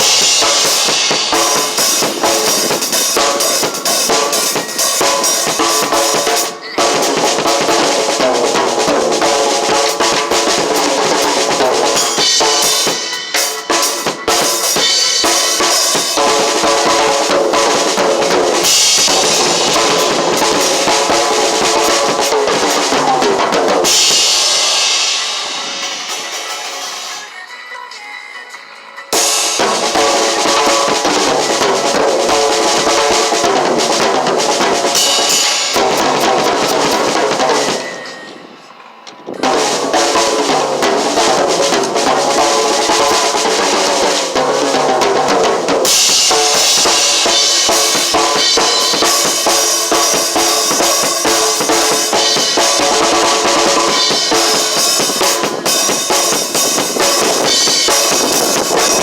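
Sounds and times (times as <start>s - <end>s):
drum kit playing: 0.0s - 27.5s, 29.1s - 59.0s
music with pitched parts: 0.0s - 59.0s.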